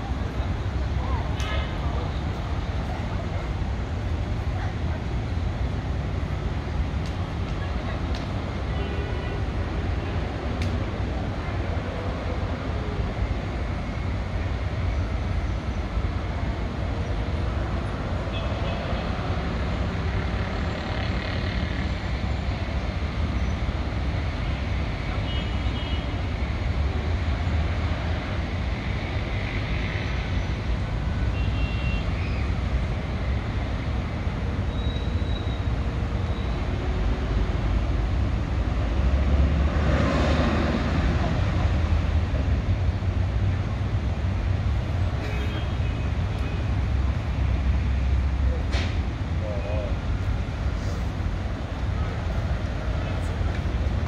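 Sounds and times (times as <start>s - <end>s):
city traffic rumble: 0.0s - 54.0s.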